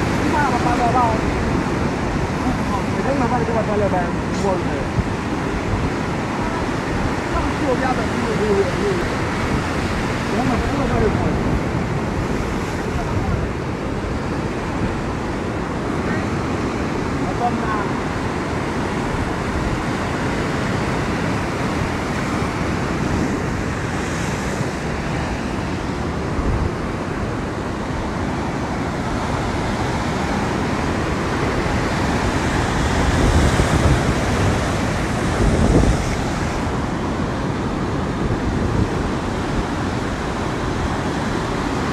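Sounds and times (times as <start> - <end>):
surf breaking on rocks: 0.0 - 41.9
wind buffeting microphone: 0.0 - 41.9.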